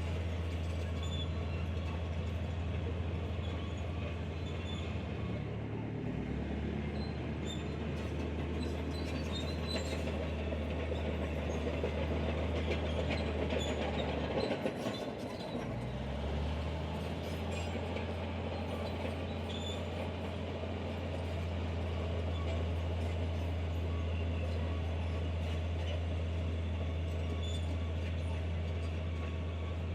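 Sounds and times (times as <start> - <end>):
diesel machinery engine: 0.0 - 29.9.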